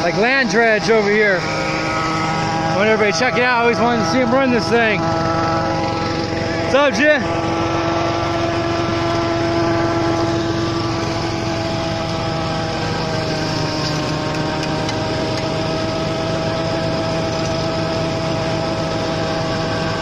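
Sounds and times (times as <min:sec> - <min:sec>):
small gasoline engine running: 0:00.0 - 0:20.0.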